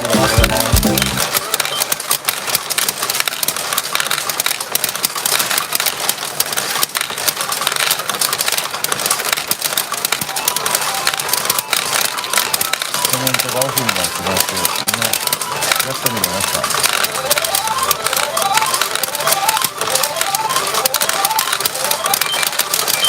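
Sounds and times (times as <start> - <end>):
steel balls clattering through machine: 0.3 - 23.0.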